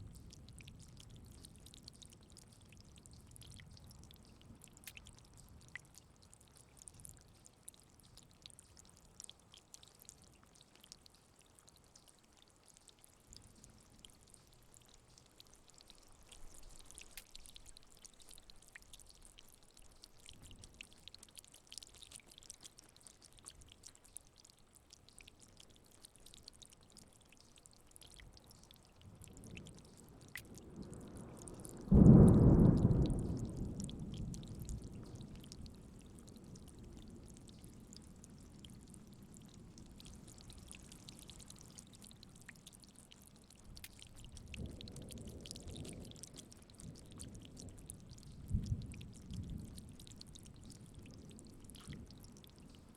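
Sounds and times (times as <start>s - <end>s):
faint rain hiss: 0.0s - 52.9s
rain drops dripping: 0.0s - 52.9s.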